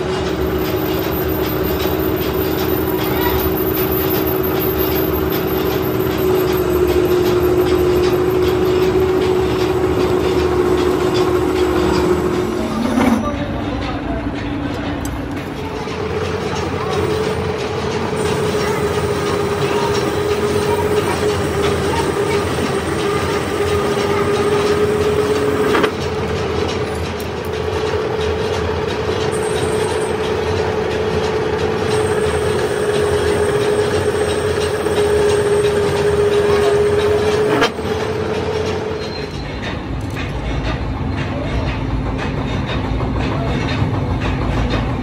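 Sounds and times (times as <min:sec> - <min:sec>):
metal lathe machining whine: 0:00.0 - 0:13.8, 0:15.9 - 0:39.5.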